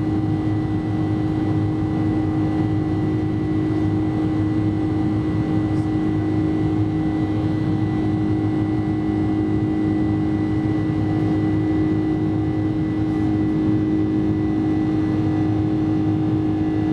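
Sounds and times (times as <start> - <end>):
jet engines in aircraft cabin: 0.0 - 16.9.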